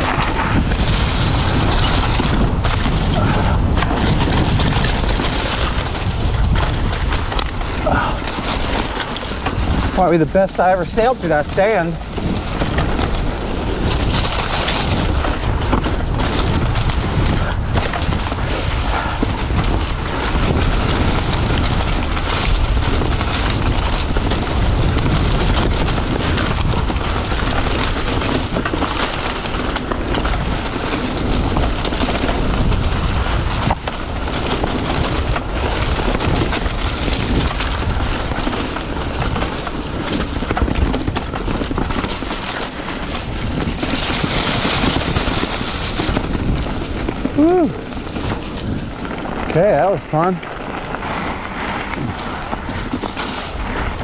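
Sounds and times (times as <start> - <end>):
tyres rumbling on dirt: 0.0 - 54.0
wind buffeting microphone: 0.0 - 54.0.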